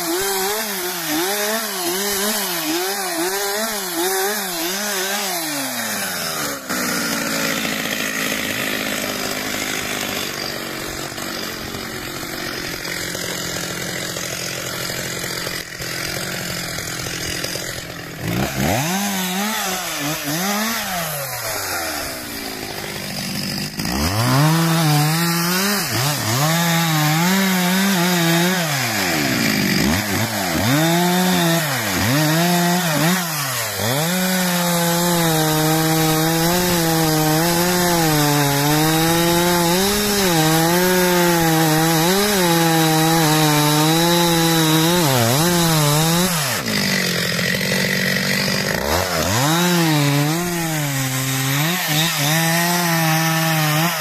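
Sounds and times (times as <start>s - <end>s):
chainsaw revving and sawing wood: 0.0s - 54.0s.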